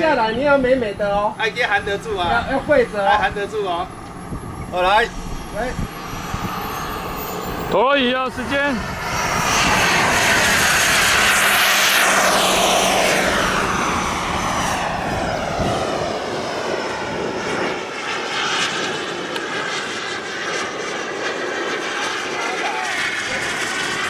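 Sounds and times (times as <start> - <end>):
model jet turbine whine: 0.0 - 24.0.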